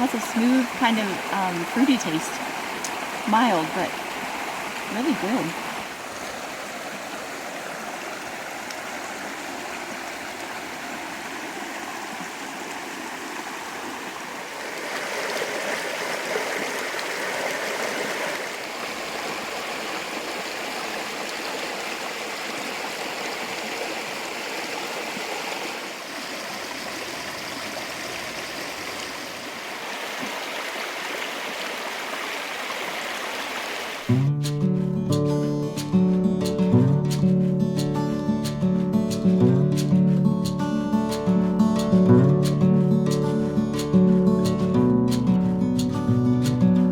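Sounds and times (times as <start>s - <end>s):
creek water flowing: 0.0s - 46.9s.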